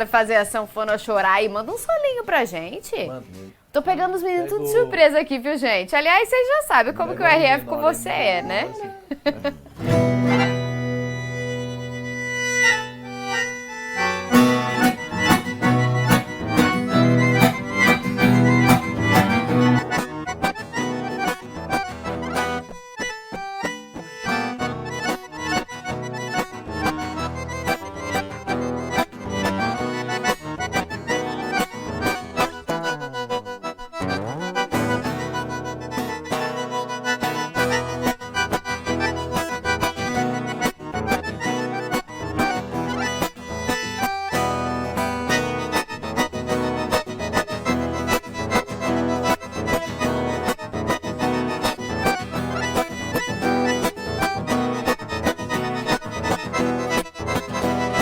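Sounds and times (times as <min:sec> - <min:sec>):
accordion solo over a beat: 0:06.5 - 0:58.0
strummed guitar: 0:07.0 - 0:58.0.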